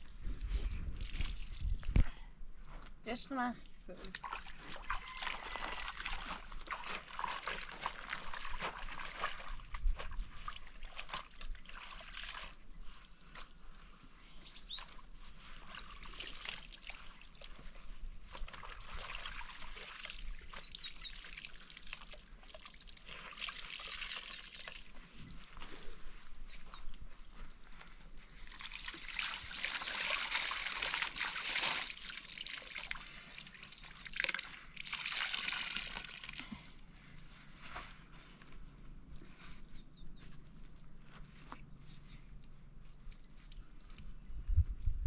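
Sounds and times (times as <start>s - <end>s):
water trickling and splashing: 3.1s - 13.2s, 14.8s - 44.2s.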